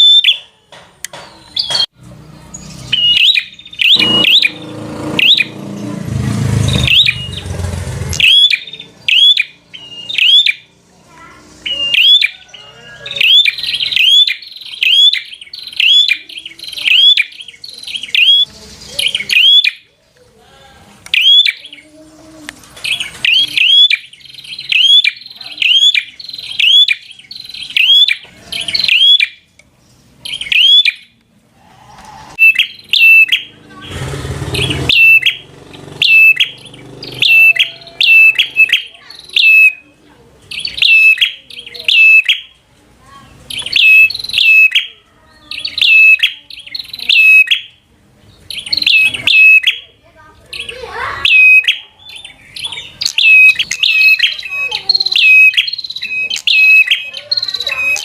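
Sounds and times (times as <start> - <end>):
bird chirping: 0.0 - 10.8, 11.4 - 20.2, 21.1 - 31.2, 32.1 - 42.6, 43.2 - 58.0.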